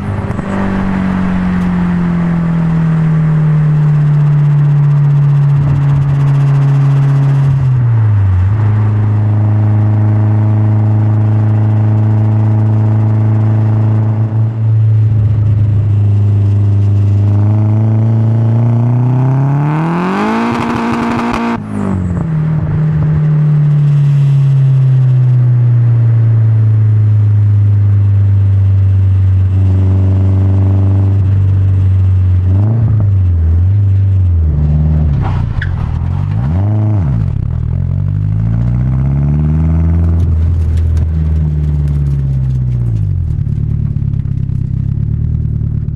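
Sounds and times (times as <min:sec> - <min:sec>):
car engine revving: 0:00.0 - 0:26.9, 0:27.6 - 0:45.9.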